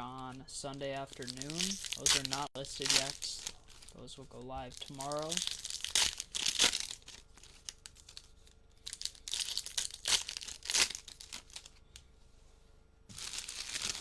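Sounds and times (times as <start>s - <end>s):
card wrappers crinkling and tearing: 0.7s - 11.8s, 13.1s - 14.0s.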